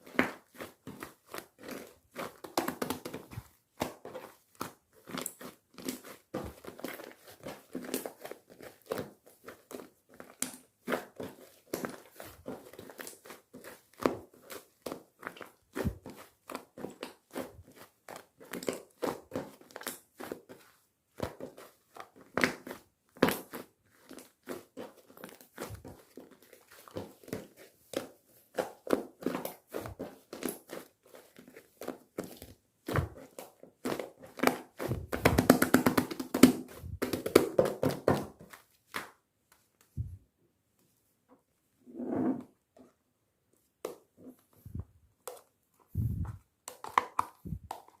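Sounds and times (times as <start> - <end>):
slime squishing by hand: 0.0 - 40.3, 43.6 - 48.0.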